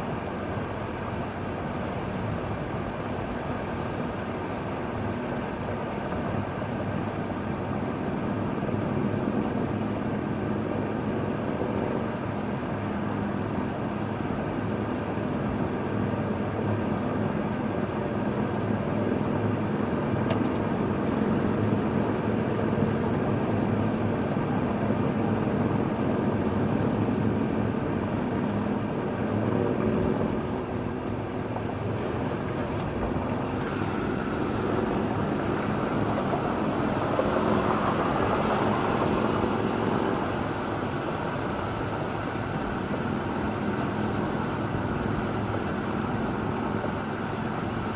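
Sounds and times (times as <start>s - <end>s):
road noise: 0.0s - 47.9s
wind: 0.0s - 47.9s.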